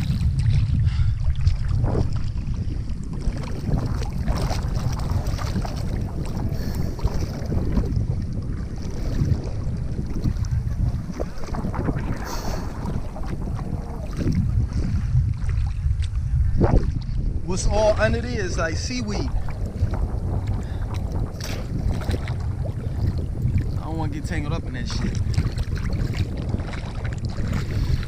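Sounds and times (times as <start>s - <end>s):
water sloshing around wading person: 0.0s - 28.0s
wind buffeting microphone: 0.0s - 28.0s.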